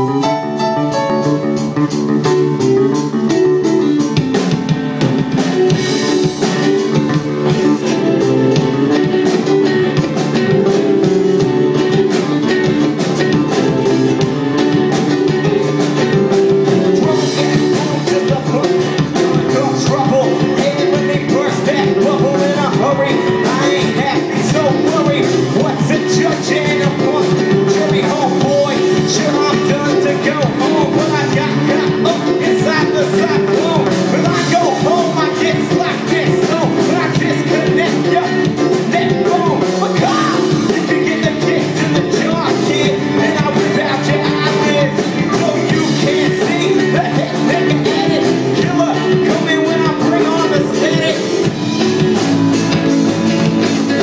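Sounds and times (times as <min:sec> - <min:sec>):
ska band playing: 0:00.0 - 0:54.0.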